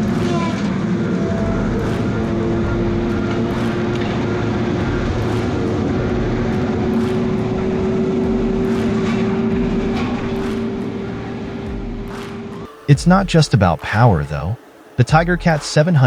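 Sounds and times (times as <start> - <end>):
heavy machine engine drone: 0.0 - 13.9
high steady whine: 0.0 - 16.0.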